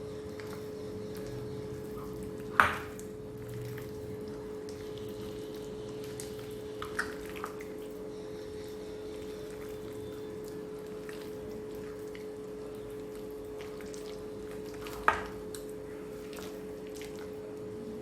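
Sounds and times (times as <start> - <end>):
steady hum: 0.0 - 18.0
wet squishing of hand mixing: 0.0 - 18.0.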